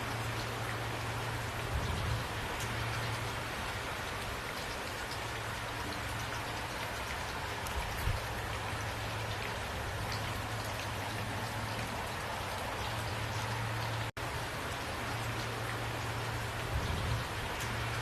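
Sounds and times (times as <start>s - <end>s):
steady rainfall: 0.0s - 18.0s
raindrop ticks: 2.2s - 16.6s, 17.2s - 18.0s.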